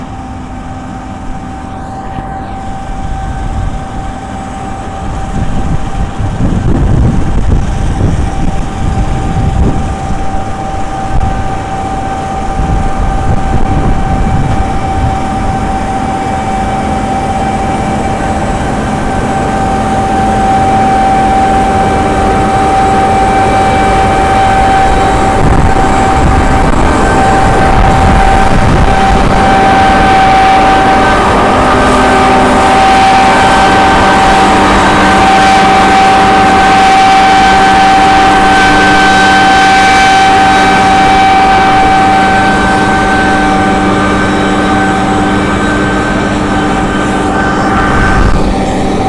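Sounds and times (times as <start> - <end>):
combine harvester droning: 0.0 - 49.0.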